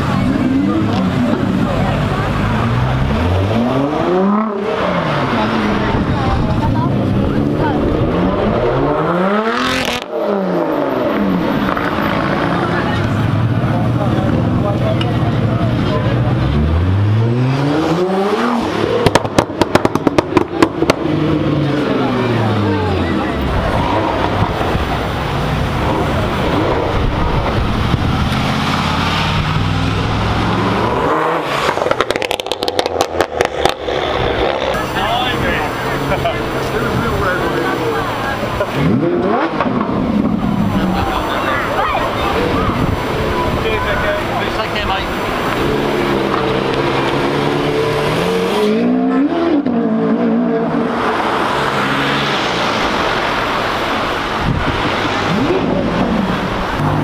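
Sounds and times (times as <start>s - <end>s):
rush of noise: 0.0s - 57.0s
sports car engine droning: 0.0s - 57.0s.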